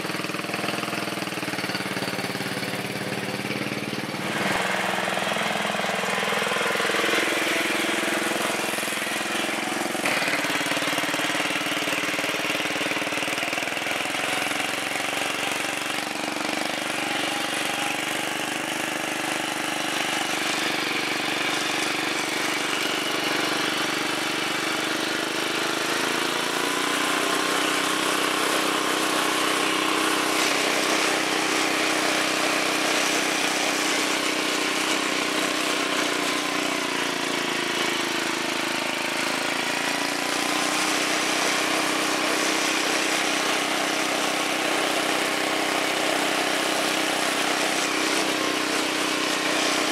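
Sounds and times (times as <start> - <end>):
lawn tractor engine running: 0.0 - 49.9.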